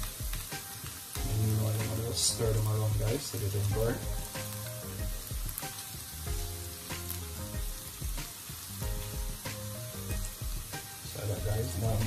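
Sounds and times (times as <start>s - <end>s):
background music with beat: 0.0s - 12.0s
garlic sizzling in oil: 0.0s - 12.0s.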